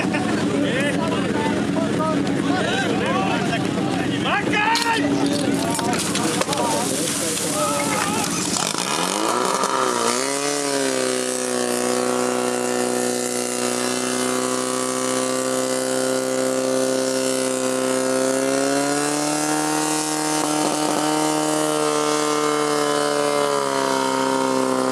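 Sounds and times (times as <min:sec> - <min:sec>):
pump engine running: 0:05.0 - 0:24.9.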